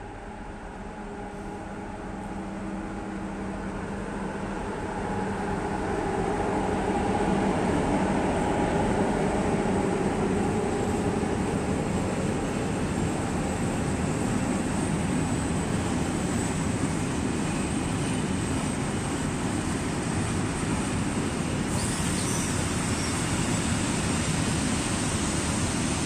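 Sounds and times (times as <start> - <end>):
electric locomotive hum: 0.0 - 26.0
train wheels rumbling on rails: 0.0 - 26.0.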